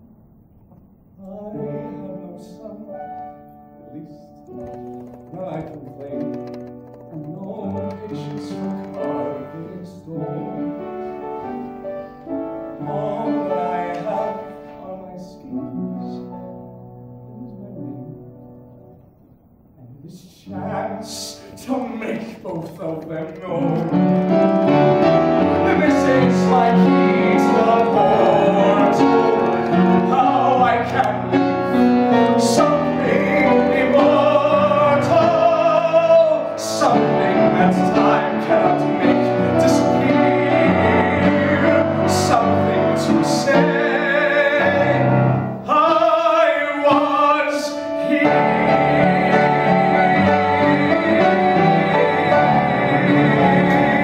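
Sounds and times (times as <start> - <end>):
piano accompaniment: 0.0 - 19.8, 20.5 - 54.0
man singing: 1.2 - 11.1, 12.8 - 16.5, 19.9 - 54.0.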